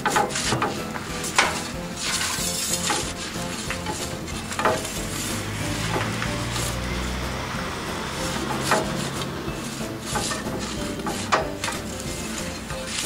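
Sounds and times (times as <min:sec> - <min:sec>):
background music: 0:00.0 - 0:13.0
metal peel scraping stone: 0:00.0 - 0:13.0.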